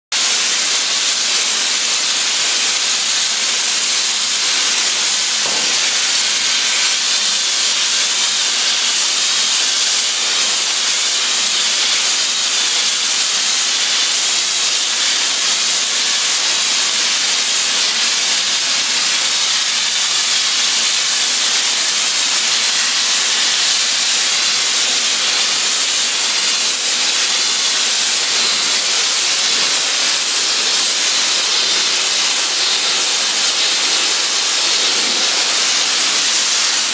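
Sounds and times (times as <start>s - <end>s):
spray gun jet-like hiss: 0.2s - 36.9s.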